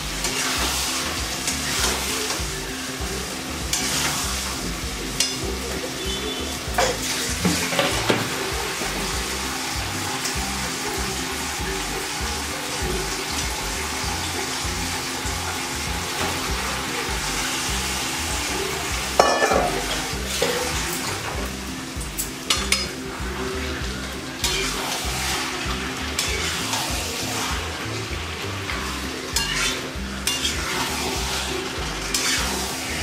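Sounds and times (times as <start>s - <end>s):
chicken sizzling in oil: 0.0s - 33.0s
spatula stirring wok: 0.0s - 33.0s.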